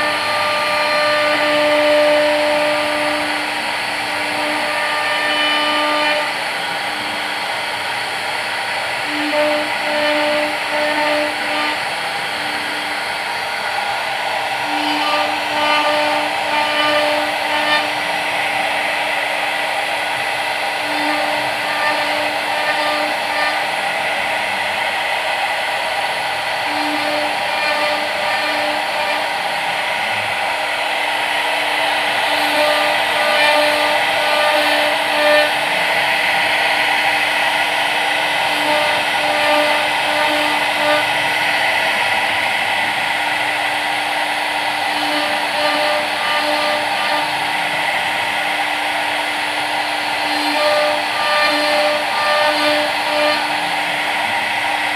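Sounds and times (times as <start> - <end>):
machine cutting noise: 0.0 - 54.9
spindle motor whine: 0.0 - 54.9.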